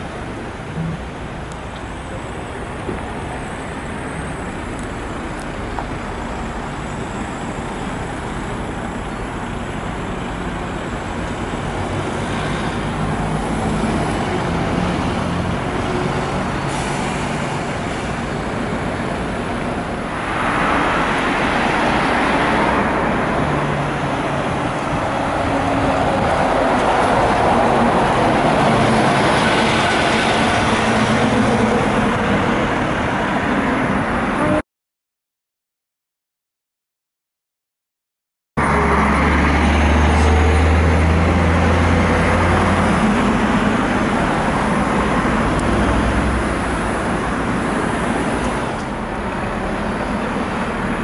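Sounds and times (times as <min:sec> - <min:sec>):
bus engine and tyre noise: 0:00.0 - 0:34.6, 0:38.6 - 0:51.0
buses and cars driving past: 0:00.0 - 0:34.6, 0:38.6 - 0:51.0.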